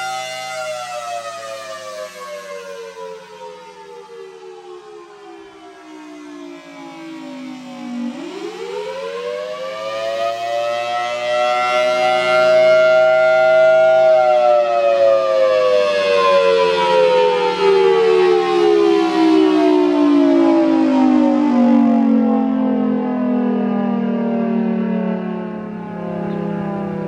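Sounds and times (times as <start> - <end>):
warning siren wailing: 0.0 - 27.0.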